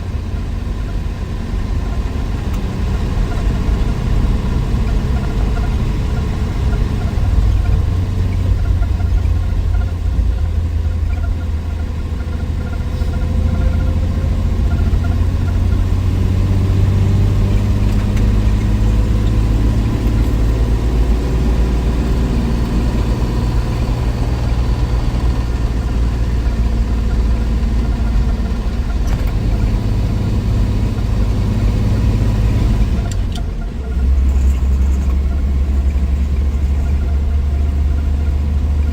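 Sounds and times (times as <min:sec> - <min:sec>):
car engine droning: 0:00.0 - 0:38.9.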